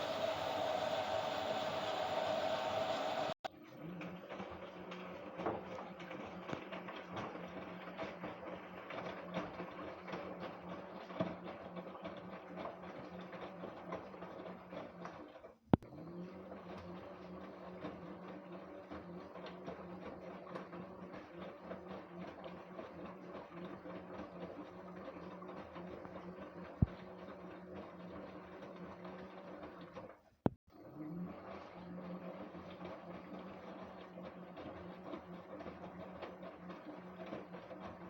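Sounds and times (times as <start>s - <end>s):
tumbling load in washing machine: 0.0s - 30.2s, 31.2s - 38.0s
washing machine motor hum: 0.0s - 38.0s.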